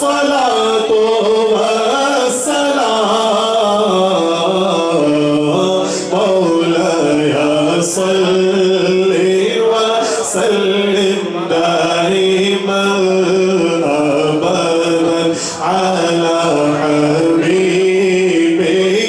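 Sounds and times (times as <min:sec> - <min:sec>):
man singing devotional chant: 0:00.0 - 0:19.0.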